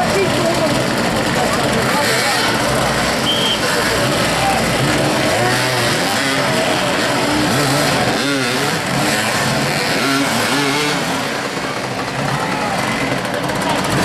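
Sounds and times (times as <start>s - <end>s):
motorcycles revving: 0.0s - 14.0s.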